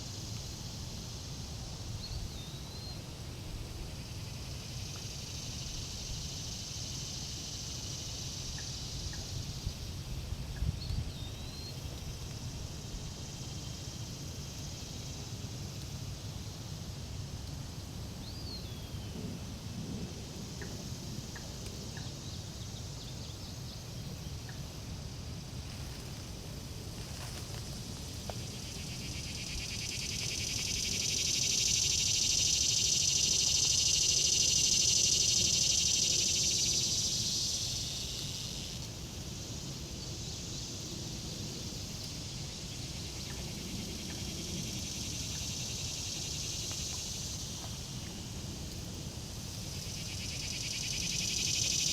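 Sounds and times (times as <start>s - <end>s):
high pulsing insect chorus: 0.0s - 51.9s.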